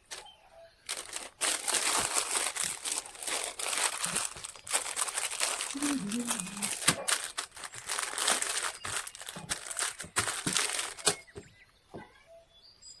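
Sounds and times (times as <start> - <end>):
crinkling crackling rustle: 0.0 - 11.4.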